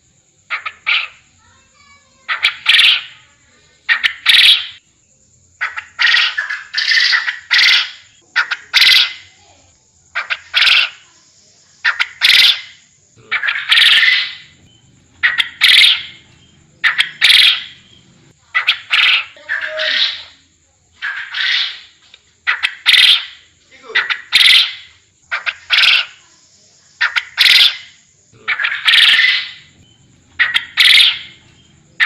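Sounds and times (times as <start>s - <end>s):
quail calling: 0.5s - 1.3s, 2.2s - 3.2s, 3.8s - 4.8s, 5.6s - 9.4s, 10.2s - 11.1s, 11.8s - 20.4s, 21.0s - 26.2s, 27.0s - 32.0s.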